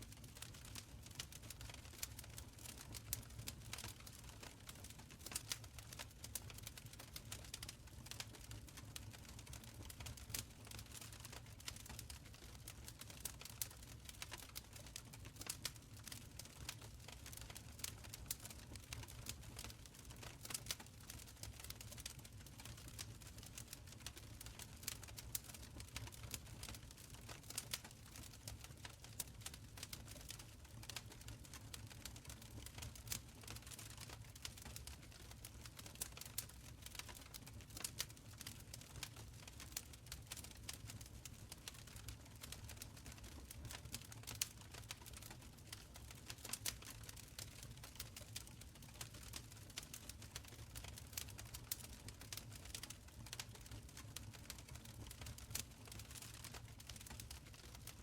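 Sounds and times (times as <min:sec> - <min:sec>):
fire crackling and popping: 0:00.1 - 0:58.0.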